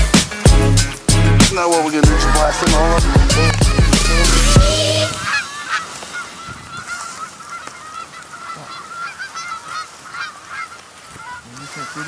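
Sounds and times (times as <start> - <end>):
geese honking: 1.3 - 12.0.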